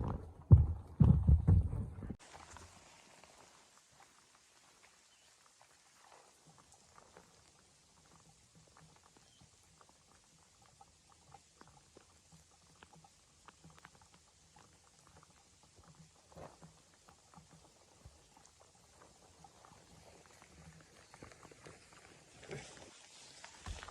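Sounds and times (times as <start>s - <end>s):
faint small ticks and clicks: 2.4s - 23.9s.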